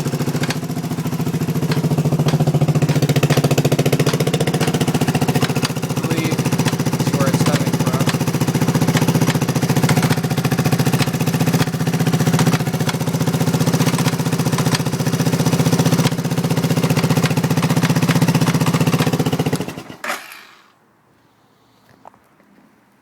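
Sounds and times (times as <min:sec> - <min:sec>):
motorcycle engine knocking: 0:00.0 - 0:20.0.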